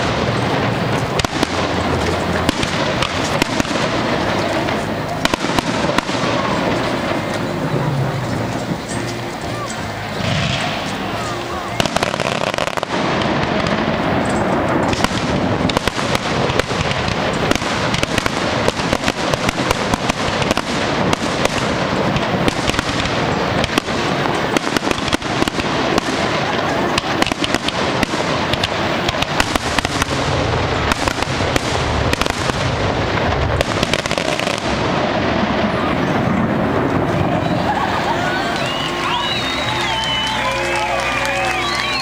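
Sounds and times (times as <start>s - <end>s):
fireworks popping and banging: 0.0s - 42.0s.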